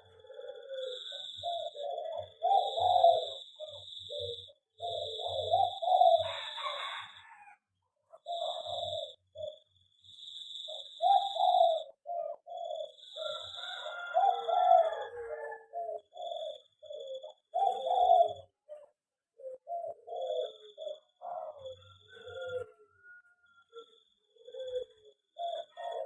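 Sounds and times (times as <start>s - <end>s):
doves cooing: 0.0s - 26.0s.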